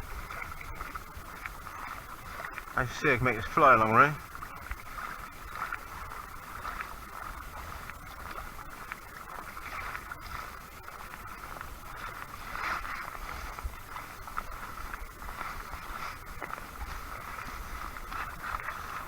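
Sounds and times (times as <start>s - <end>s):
wind rumble on microphone: 0.0s - 2.8s, 4.2s - 19.0s
water rushing along hull: 0.0s - 19.0s.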